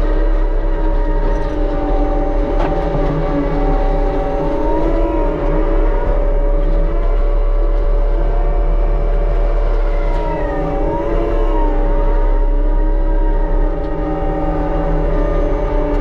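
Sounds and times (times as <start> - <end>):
engine running: 0.0 - 16.0
mulching machine whine: 0.0 - 16.0.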